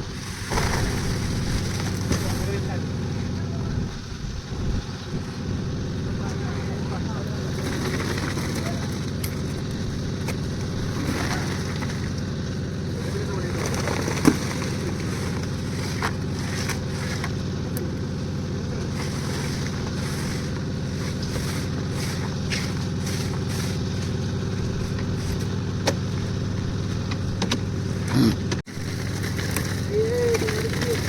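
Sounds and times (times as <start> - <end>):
concrete mixer engine running: 0.0 - 31.0.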